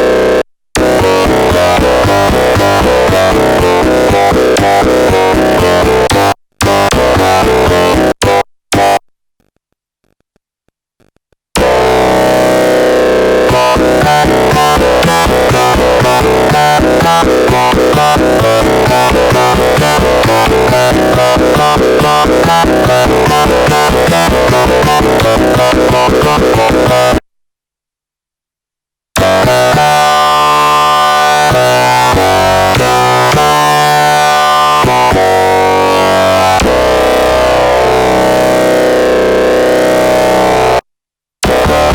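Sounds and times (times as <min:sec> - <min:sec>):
synthesizer bass notes: 0:00.0 - 0:09.1, 0:11.6 - 0:27.3, 0:29.2 - 0:40.8, 0:41.4 - 0:41.9.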